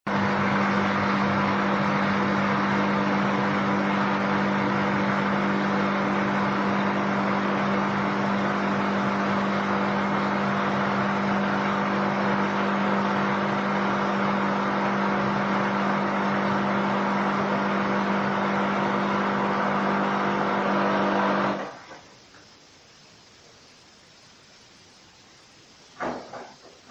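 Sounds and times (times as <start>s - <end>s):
washing machine motor hum: 0.0s - 24.6s.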